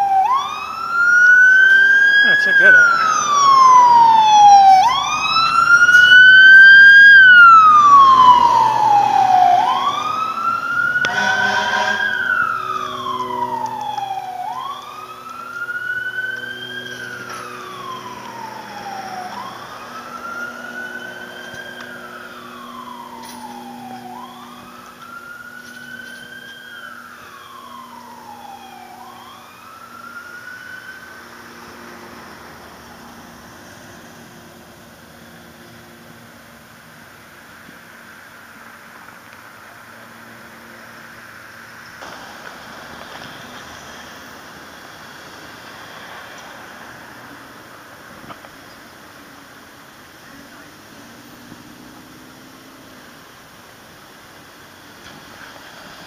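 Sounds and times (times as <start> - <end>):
fire engine wail siren: 0.0 - 56.0
truck engine rumble: 0.0 - 56.0.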